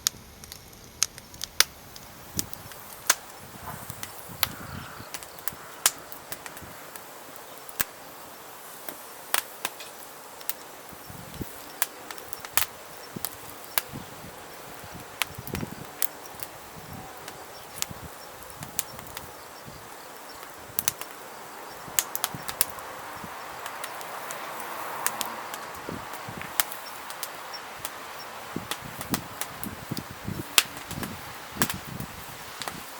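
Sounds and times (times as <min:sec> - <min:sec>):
fire hissing: 0:00.0 - 0:32.9
firewood crackling and popping: 0:00.0 - 0:32.9.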